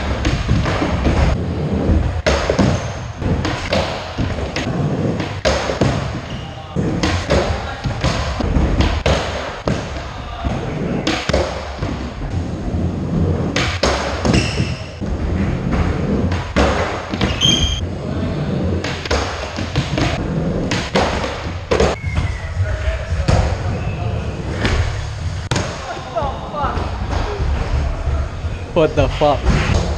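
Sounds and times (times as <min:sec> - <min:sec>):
skateboard wheels rolling on concrete: 0:00.0 - 0:06.2, 0:06.8 - 0:25.4.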